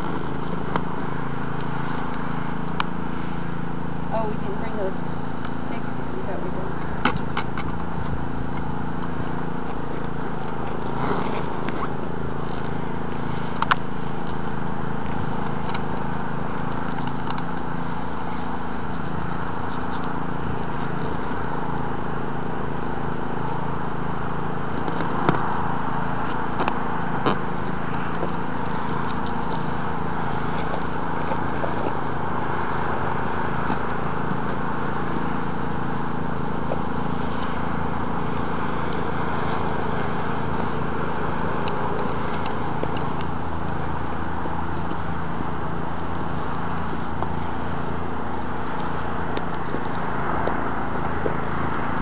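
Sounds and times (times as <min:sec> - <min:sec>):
ventilation fans humming: 0:00.0 - 0:52.0.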